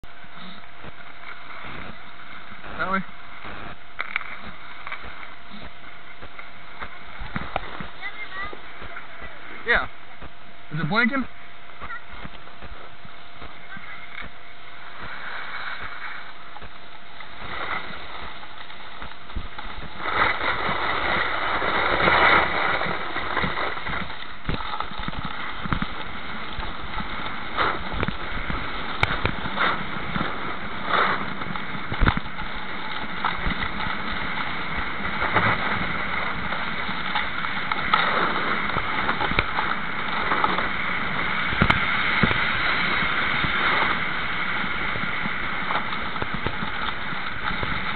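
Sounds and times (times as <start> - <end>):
snowboard sliding on snow: 0.0 - 47.9
snowboard edges scraping snow: 0.1 - 9.9, 11.8 - 47.9.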